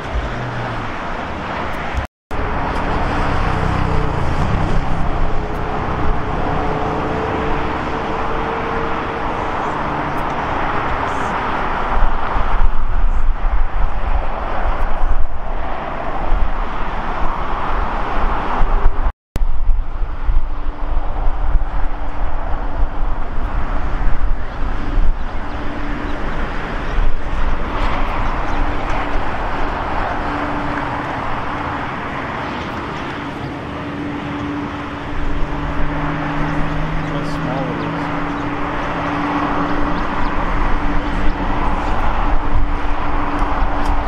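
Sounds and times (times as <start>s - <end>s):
jet engines rushing: 0.0s - 44.0s.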